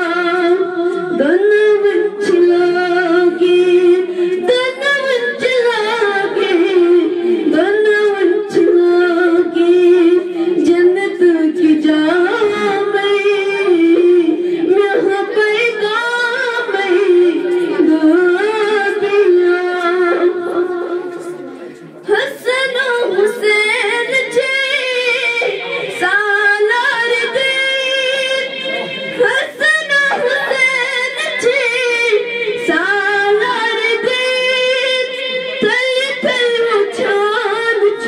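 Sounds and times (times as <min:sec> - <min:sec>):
woman singing unaccompanied: 0:00.0 - 0:21.1, 0:22.1 - 0:38.0.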